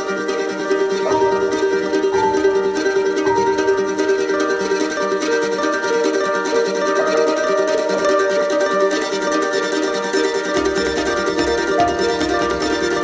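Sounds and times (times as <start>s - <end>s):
plucked mandolin melody: 0.0s - 13.0s.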